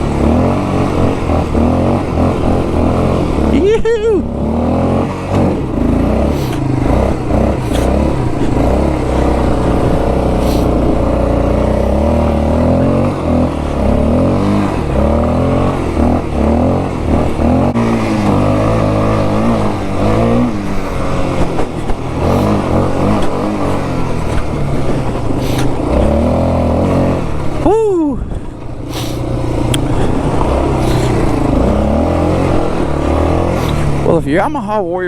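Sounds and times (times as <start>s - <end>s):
atv engine revving: 0.0s - 35.0s.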